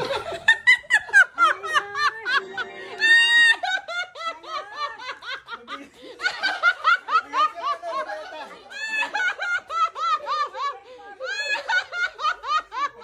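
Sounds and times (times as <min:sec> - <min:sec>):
group of people laughing: 0:00.0 - 0:13.0.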